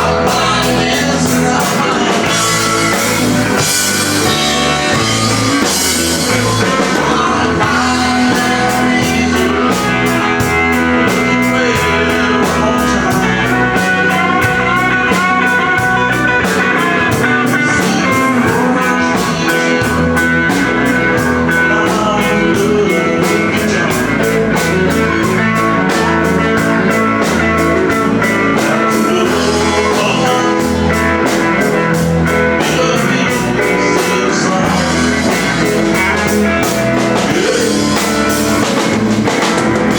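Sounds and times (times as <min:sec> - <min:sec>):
live country rock band: 0:00.0 - 0:39.9.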